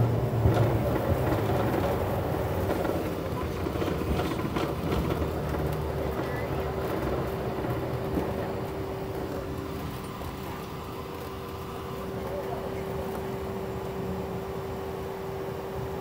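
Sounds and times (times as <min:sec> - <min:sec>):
jet cabin rumble: 0:00.0 - 0:15.7
constant engine tone: 0:00.0 - 0:16.0.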